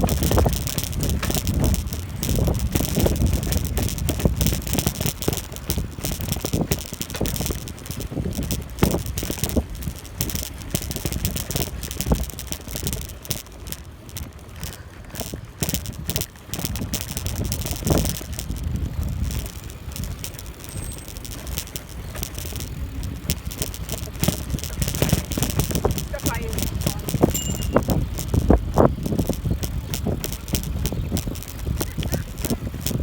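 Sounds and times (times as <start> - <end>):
wind on microphone: 0.0 - 13.3, 15.0 - 33.0
bicycle rattling and clicking: 0.0 - 33.0.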